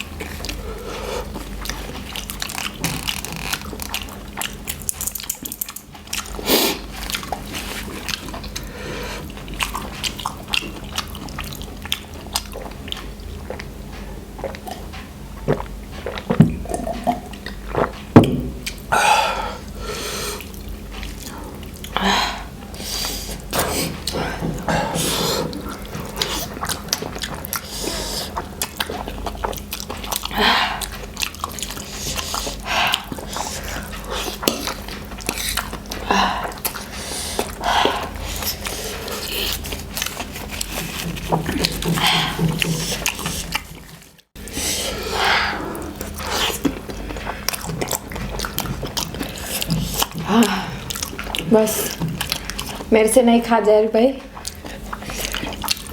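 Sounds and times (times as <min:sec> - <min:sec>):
slurping and chewing noodles: 0:00.0 - 0:53.0, 0:54.2 - 0:55.9.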